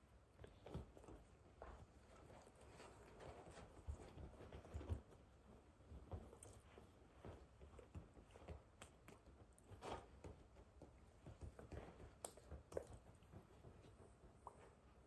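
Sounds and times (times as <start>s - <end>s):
hands and clothing rustling: 0.0s - 15.0s.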